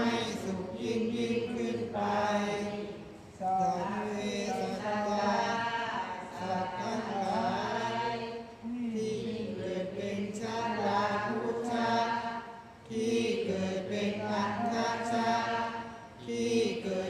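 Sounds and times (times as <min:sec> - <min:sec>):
voices chanting in monotone: 0:00.0 - 0:17.0.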